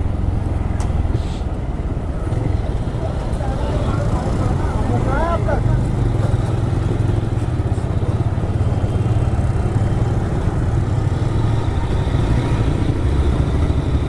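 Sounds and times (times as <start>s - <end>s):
motorcycle engine running: 2.1s - 14.0s.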